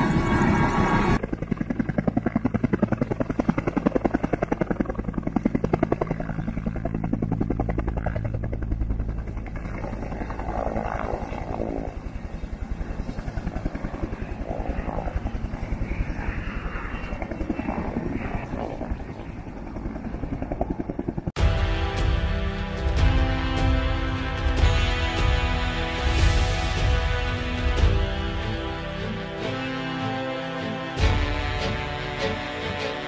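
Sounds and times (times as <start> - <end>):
helicopter rotor beating: 0.0 - 33.0
turbine engine hum: 0.0 - 33.0.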